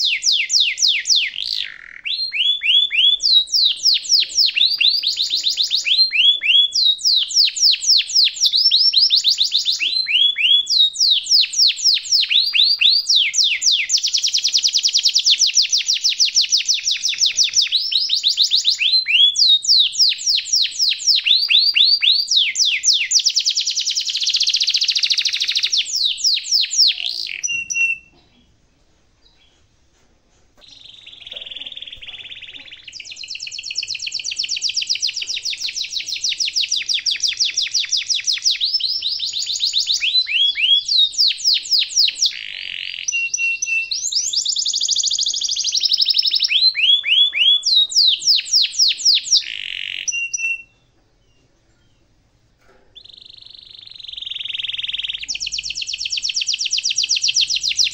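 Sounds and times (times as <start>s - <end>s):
canary singing trills: 0.0s - 28.6s, 30.6s - 57.9s.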